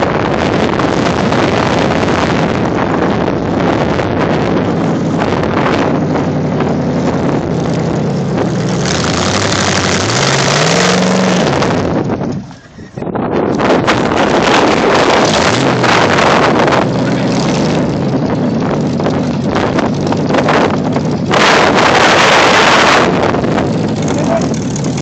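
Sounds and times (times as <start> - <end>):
engine running hard: 0.0 - 25.0
wind buffeting microphone: 0.0 - 25.0.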